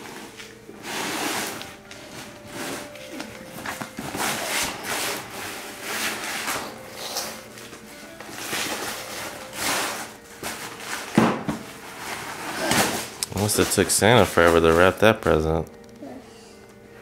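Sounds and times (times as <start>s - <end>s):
wrapping paper crinkling and tearing: 0.0s - 15.8s
faint background music: 0.0s - 17.0s.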